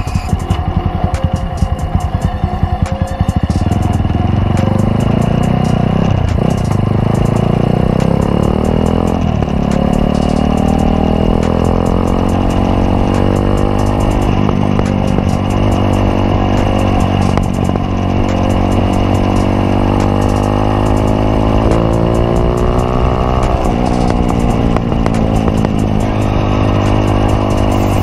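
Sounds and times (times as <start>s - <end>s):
motorcycle engine revving: 0.0s - 28.0s
road and wind noise: 0.0s - 28.0s.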